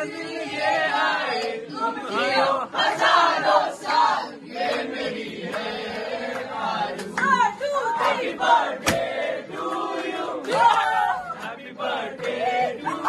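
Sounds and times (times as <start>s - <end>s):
crowd chanting and shouting: 0.0s - 13.0s.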